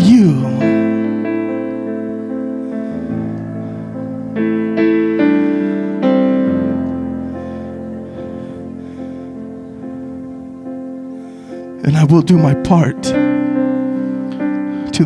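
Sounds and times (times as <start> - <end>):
piano keyboard playing slow chords: 0.0 - 15.0.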